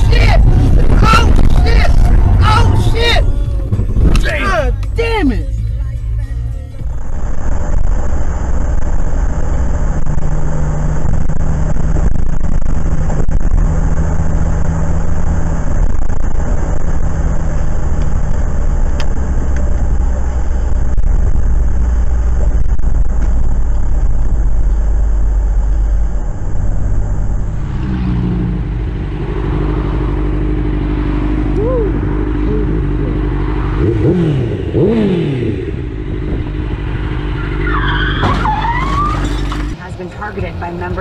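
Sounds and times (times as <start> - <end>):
car road noise drone: 0.0 - 41.0.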